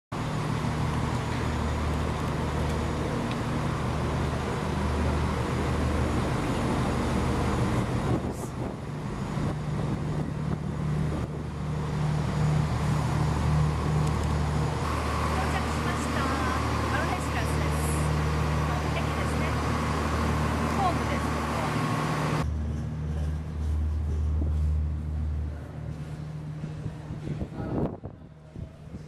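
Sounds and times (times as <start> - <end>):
train engine idling: 0.2 - 28.9.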